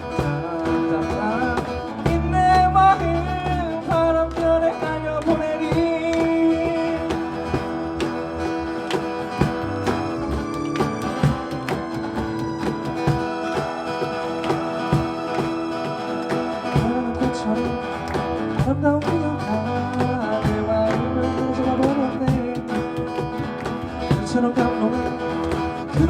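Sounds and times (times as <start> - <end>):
person singing: 0.0 - 26.0
steady drum beat: 0.0 - 26.0
strummed guitar: 0.0 - 26.0.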